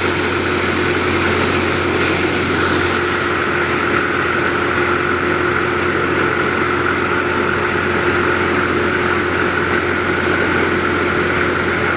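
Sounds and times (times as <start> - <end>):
grain machine droning: 0.0 - 11.9.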